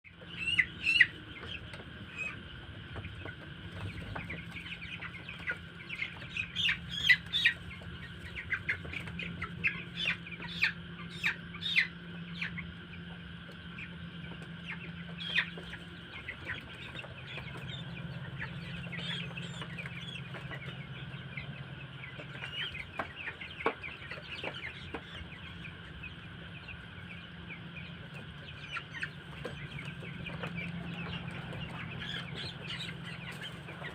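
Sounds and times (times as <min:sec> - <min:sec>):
chicks peeping: 0:00.1 - 0:33.9
steady low hum: 0:00.1 - 0:33.9.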